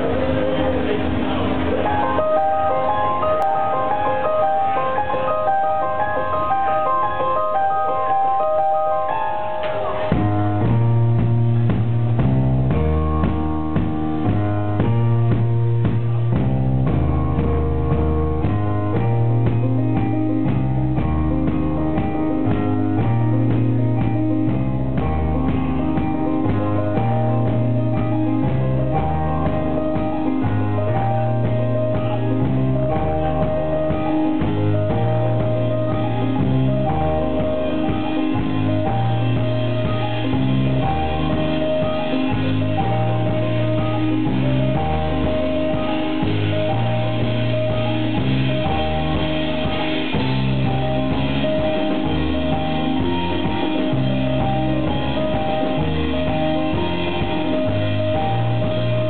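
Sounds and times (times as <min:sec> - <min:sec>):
drum kit beat: 0:00.0 - 0:59.0
electric guitar: 0:00.0 - 0:59.0
synthesizer keyboard: 0:00.0 - 0:59.0
low sustained bass line: 0:10.2 - 0:59.0.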